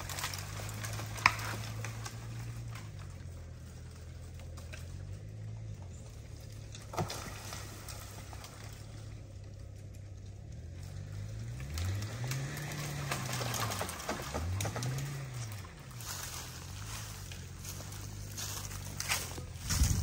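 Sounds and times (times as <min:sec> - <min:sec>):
pickup engine idling: 0:00.0 - 0:20.0.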